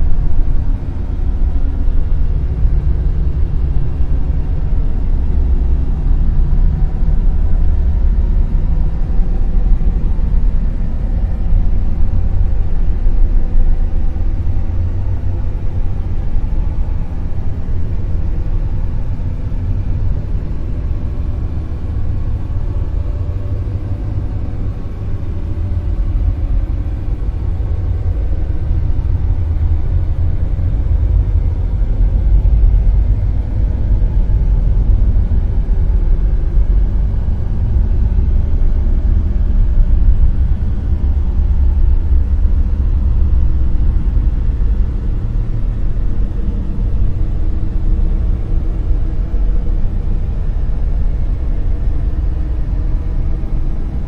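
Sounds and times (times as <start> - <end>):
deep hiss-like rumble: 0.0 - 54.0.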